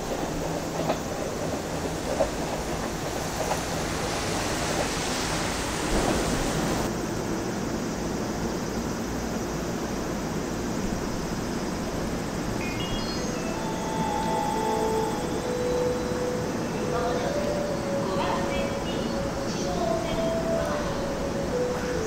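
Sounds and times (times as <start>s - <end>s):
train rumble and hiss: 0.0s - 22.0s.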